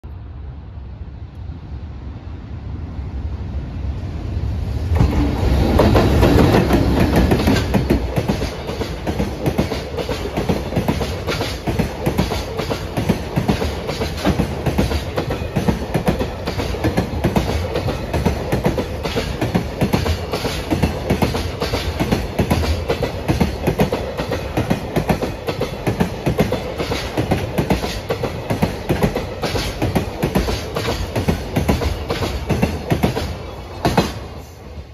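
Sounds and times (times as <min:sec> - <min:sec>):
freight train rumbling past: 0:00.0 - 0:34.9
wheels clacking on rails: 0:04.9 - 0:34.9.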